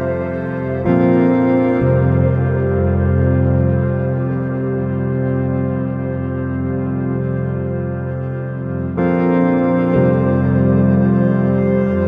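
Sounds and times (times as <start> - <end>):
sustained chords music: 0.0 - 12.0.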